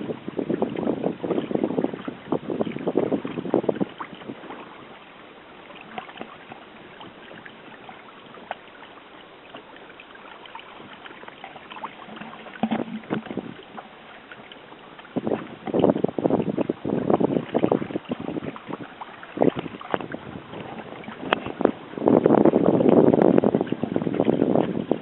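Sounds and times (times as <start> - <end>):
small water splashes: 0.0 - 25.0
water lapping along a hull: 0.0 - 25.0.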